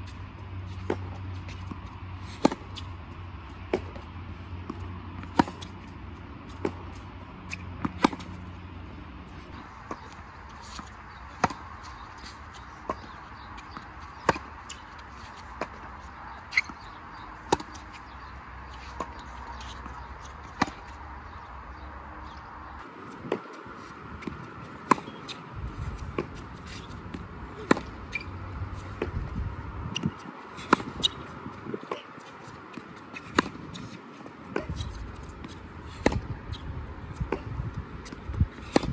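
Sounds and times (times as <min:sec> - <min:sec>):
racquets hitting tennis ball: 0:00.0 - 0:38.9
tennis ball bouncing on hard court: 0:00.1 - 0:21.4, 0:23.2 - 0:38.9.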